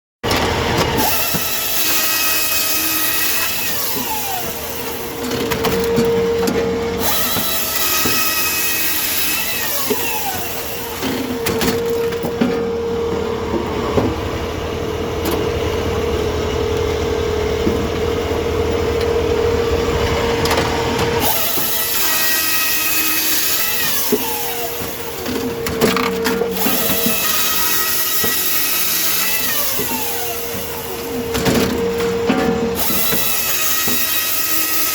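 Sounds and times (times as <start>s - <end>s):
firewood processor running: 0.2s - 34.9s.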